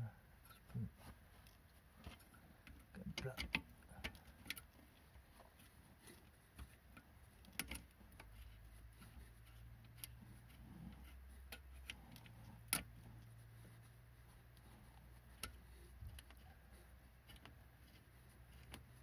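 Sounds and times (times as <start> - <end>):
small metallic clicks: 1.4 - 19.0.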